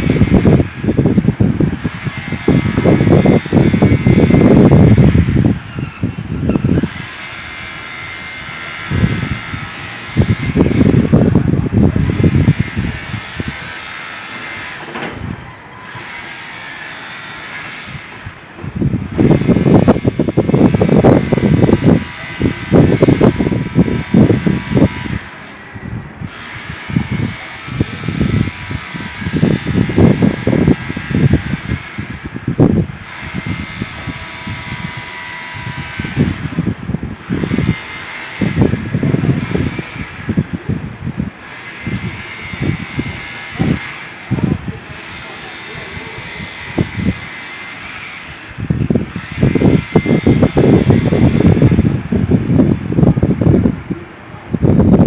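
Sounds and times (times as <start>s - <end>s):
demolition hammer chipping concrete: 0.0s - 5.6s, 6.6s - 53.1s
steady machine noise: 0.0s - 53.9s.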